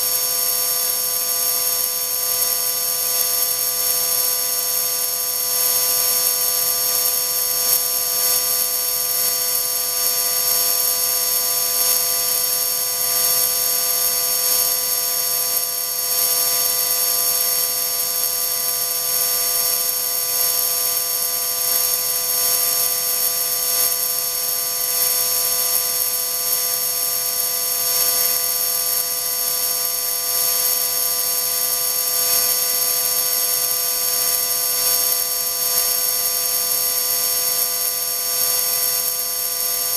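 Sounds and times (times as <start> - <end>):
electric motor high-pitched whine: 0.0 - 39.9.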